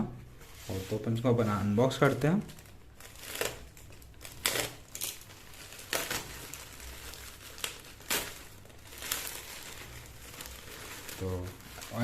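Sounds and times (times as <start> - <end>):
packaging crinkling and ripping: 0.7 - 12.0.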